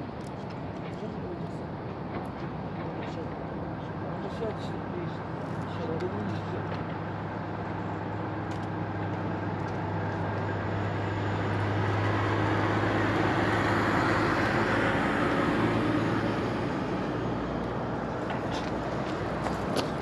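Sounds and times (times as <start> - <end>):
low engine hum: 0.0 - 20.0
passing traffic rush: 0.0 - 20.0.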